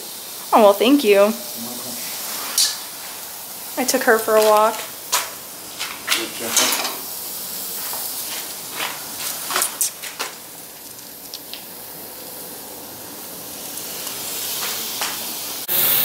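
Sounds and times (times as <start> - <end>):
chicken sizzling on a grill: 0.0 - 16.0
faint steady hiss: 0.0 - 16.0.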